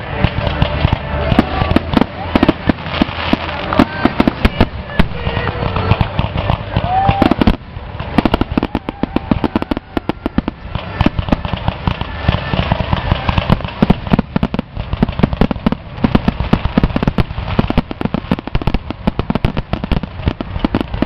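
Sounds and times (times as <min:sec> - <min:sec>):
firework shells bursting: 0:00.0 - 0:21.0
fireworks crackling: 0:00.0 - 0:21.0.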